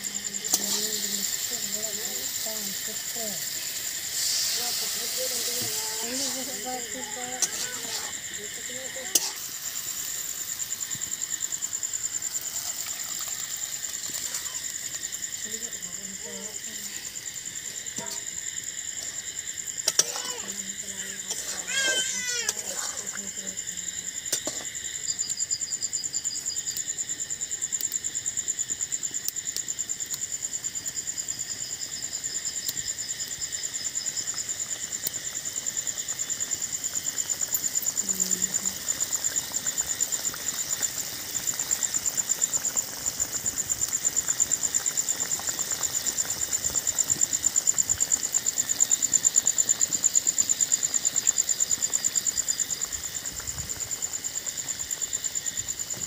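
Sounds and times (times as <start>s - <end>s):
crickets chirping: 0.0s - 56.0s
lower insect trill: 0.0s - 56.0s.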